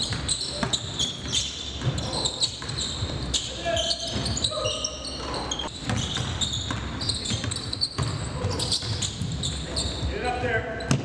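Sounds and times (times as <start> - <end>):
sneakers squeaking on court: 0.0 - 11.0.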